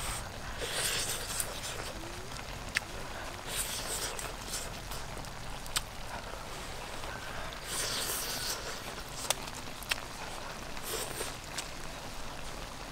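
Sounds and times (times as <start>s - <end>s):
mouth smacking while chewing: 0.0s - 11.8s
outdoor background hiss: 0.0s - 12.9s.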